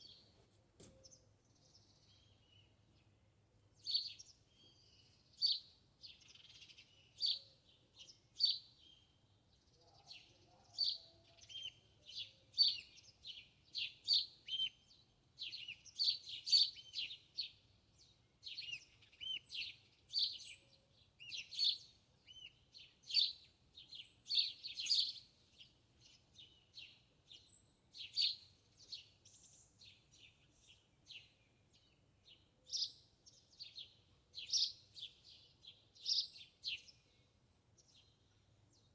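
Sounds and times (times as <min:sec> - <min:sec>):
small birds chirping: 0:03.8 - 0:38.9.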